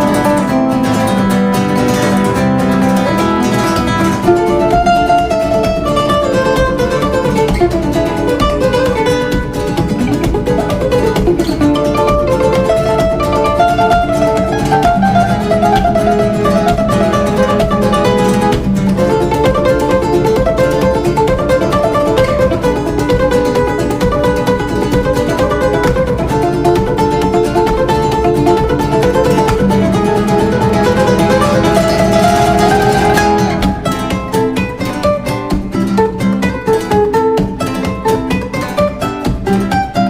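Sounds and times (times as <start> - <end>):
acoustic guitar music: 0.0 - 40.0.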